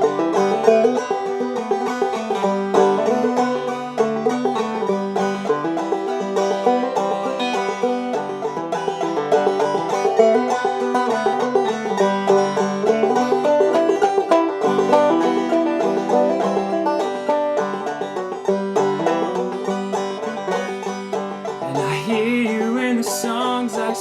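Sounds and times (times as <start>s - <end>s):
banjo playing: 0.0s - 24.0s.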